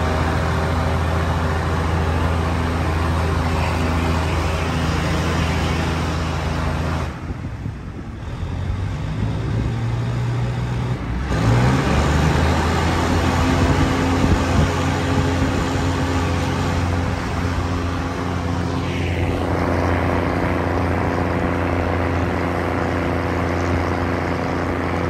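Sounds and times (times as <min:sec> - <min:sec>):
diesel railcar engine drone: 0:00.0 - 0:25.0.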